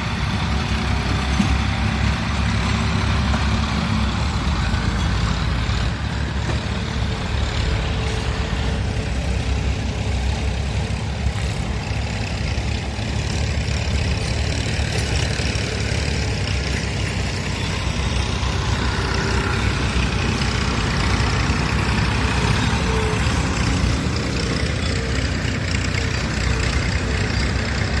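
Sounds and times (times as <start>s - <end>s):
heavy engine droning: 0.0s - 28.0s.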